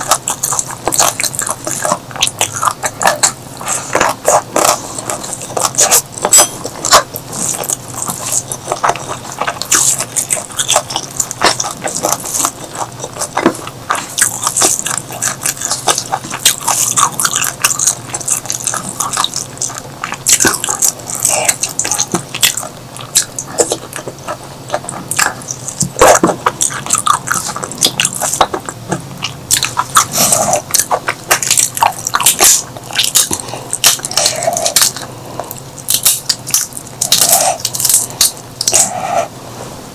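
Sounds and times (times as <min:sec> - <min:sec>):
chewing and mouth-smacking: 0:00.0 - 0:39.3.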